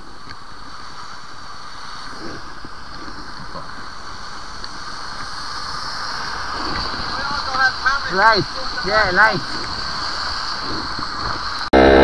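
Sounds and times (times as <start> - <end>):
wind rushing: 0.0 - 11.7
tyres on wet road: 0.0 - 12.0.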